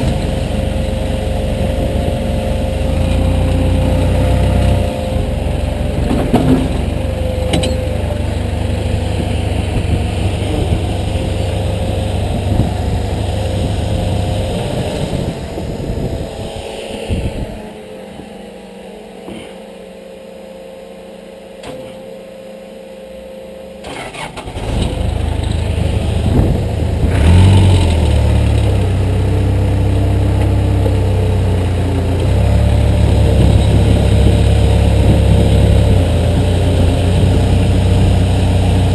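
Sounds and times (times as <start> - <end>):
backhoe diesel engine running: 0.0 - 19.6, 23.8 - 38.9.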